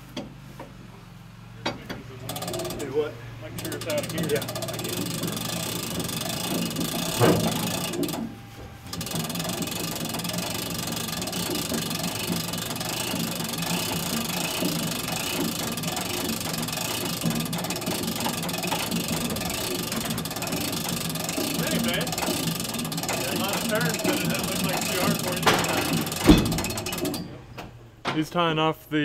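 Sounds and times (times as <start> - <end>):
truck engine clattering: 0.0 - 28.6.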